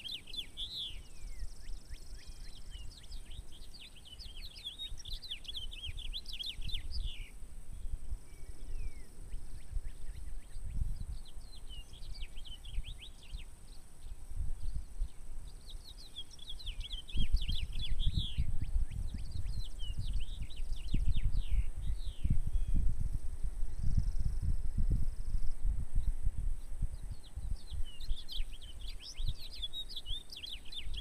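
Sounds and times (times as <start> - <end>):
songbird chirping: 0.0 - 31.0
wind gusting on microphone: 0.0 - 31.0.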